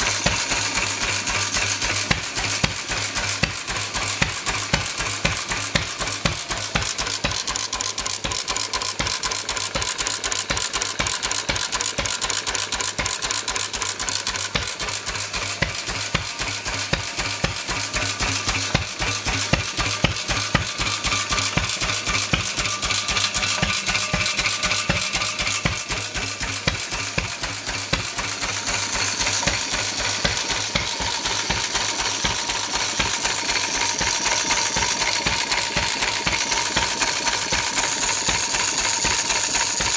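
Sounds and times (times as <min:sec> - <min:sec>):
stationary engine metallic clatter: 0:00.0 - 0:39.9.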